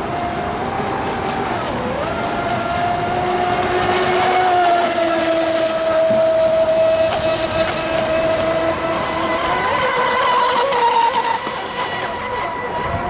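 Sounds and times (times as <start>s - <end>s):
toy boat motor running: 0.0s - 13.0s.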